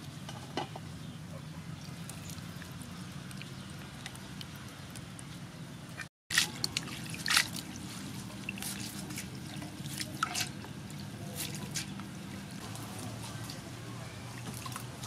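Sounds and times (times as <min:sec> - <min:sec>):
water dripping and splashing: 0:01.9 - 0:15.0.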